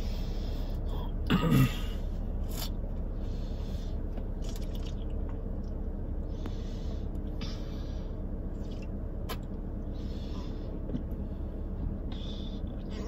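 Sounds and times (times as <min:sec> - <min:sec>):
car cabin rumble: 0:00.0 - 0:13.0
faint hum: 0:00.0 - 0:13.0.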